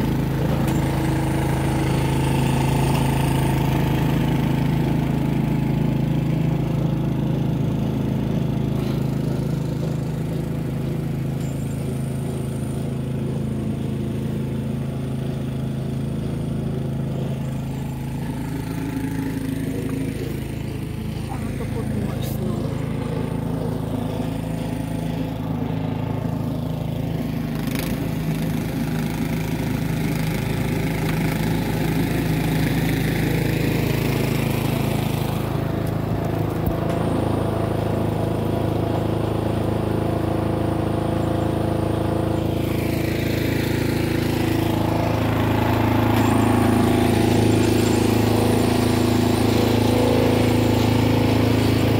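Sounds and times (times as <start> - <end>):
small engine running: 0.0 - 51.9.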